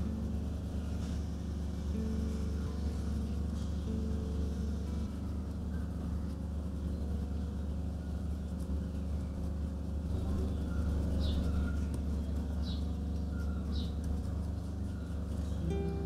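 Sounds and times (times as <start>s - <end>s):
low rumbling hum: 0.0s - 16.0s.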